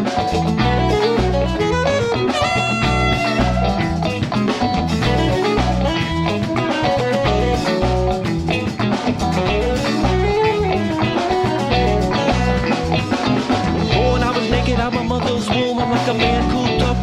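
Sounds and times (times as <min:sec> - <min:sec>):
bass: 0:00.0 - 0:17.0
drum kit beat: 0:00.0 - 0:17.0
guitar: 0:00.0 - 0:17.0.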